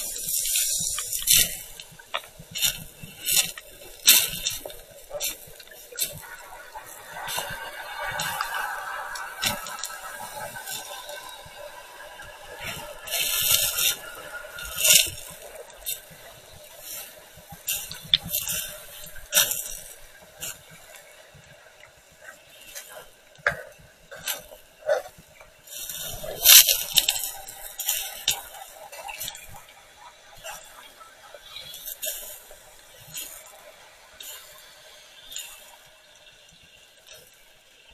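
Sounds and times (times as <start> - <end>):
water sloshing and bubbling: 0.0 - 37.9.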